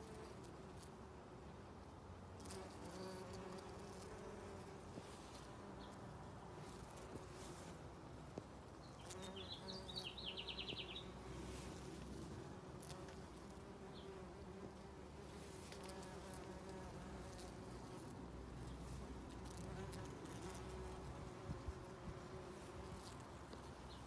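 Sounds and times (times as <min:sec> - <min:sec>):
bumblebees buzzing: 0:02.3 - 0:24.0.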